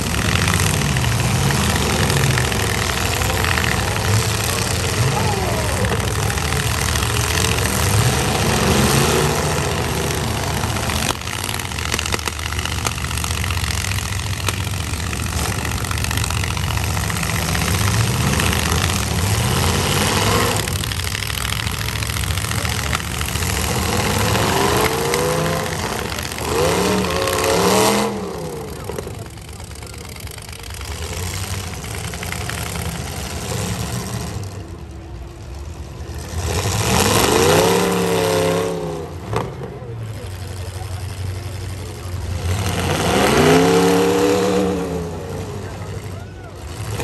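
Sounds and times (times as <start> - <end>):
pickup truck engines revving hard: 0.0 - 47.0.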